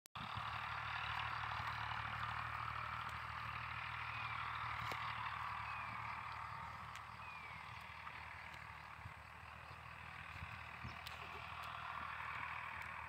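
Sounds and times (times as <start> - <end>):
low even engine-like hum: 0.2 - 13.0.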